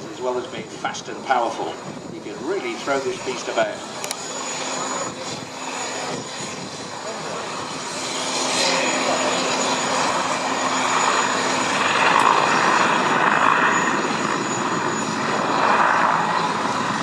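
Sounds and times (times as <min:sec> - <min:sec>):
helicopter flying past: 0:00.0 - 0:17.0.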